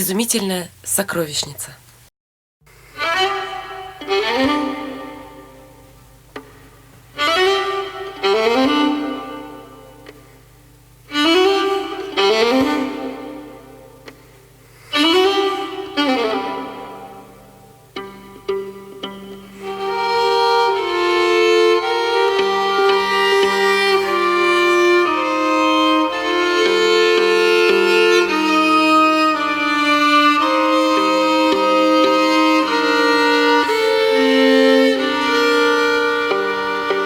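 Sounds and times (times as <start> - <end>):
solo violin melody: 3.0 - 5.9, 7.1 - 10.1, 11.1 - 14.0, 14.9 - 37.0.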